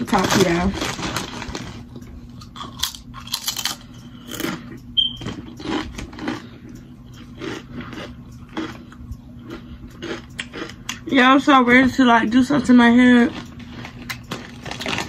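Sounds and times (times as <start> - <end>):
person crunching potato chips: 0.0 - 11.3, 13.2 - 15.0.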